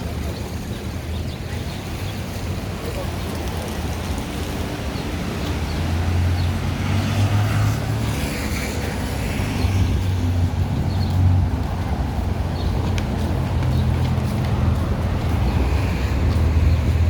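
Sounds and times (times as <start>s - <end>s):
traffic engines rumbling: 0.0s - 17.0s
vehicle passing: 3.3s - 17.0s.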